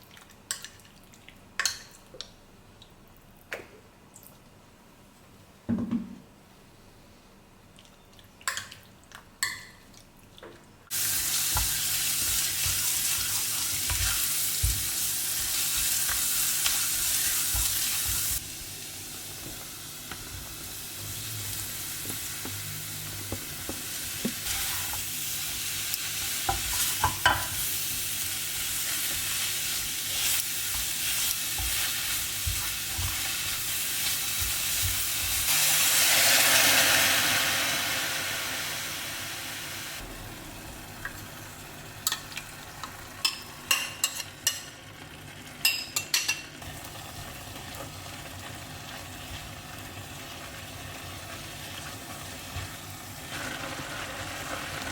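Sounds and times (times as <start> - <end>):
food sizzling in oil: 10.9 - 54.9.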